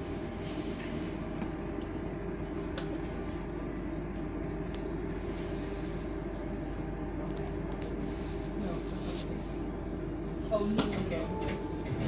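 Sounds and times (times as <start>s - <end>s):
rumble of wheels on rail: 0.0s - 12.0s.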